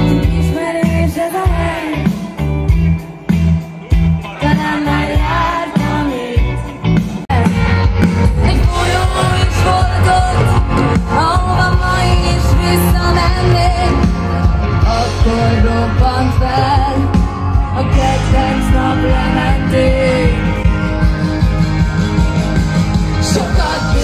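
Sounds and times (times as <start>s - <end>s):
loud rock music with singer: 0.0s - 24.0s.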